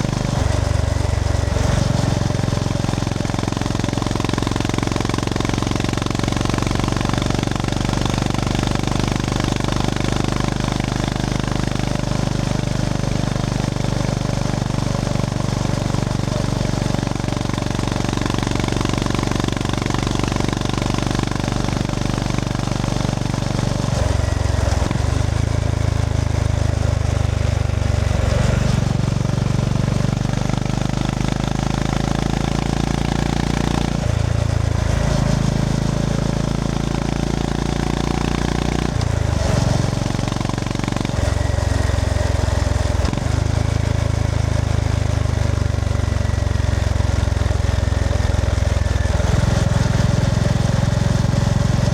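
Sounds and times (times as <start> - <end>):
motorcycle engine revving and shifting: 0.0 - 51.9.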